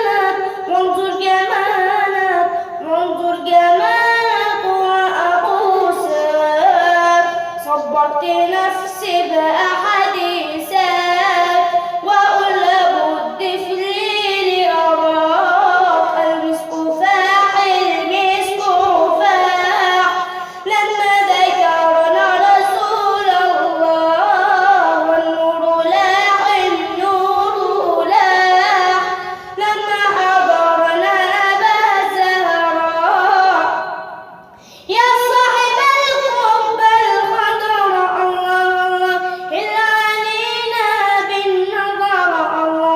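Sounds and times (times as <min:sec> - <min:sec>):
high voice singing unaccompanied: 0:00.0 - 0:34.2, 0:34.9 - 0:42.9.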